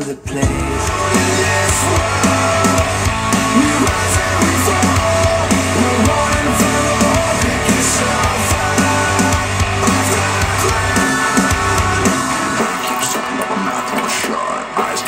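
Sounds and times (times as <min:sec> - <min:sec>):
instrumental music through speakers: 0:00.1 - 0:15.0.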